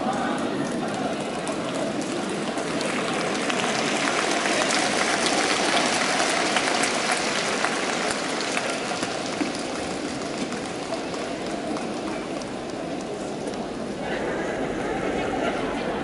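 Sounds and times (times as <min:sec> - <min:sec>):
audience applause: 0:00.0 - 0:16.0.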